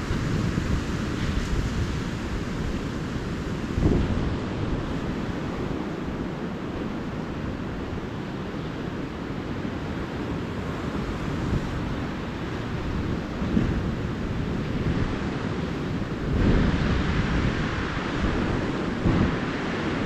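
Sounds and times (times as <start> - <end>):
ocean surf washing onto beach: 0.0 - 20.0
wind rumbling on microphone: 0.0 - 20.0.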